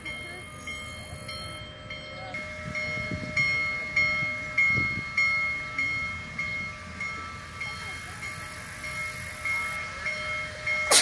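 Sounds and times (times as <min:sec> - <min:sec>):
railroad bell ringing: 0:00.0 - 0:11.0.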